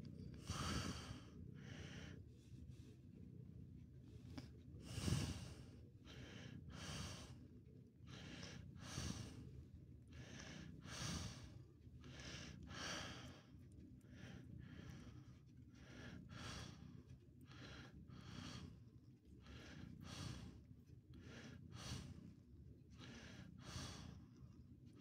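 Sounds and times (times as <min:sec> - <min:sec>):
slow steady breathing: 0:00.0 - 0:25.0.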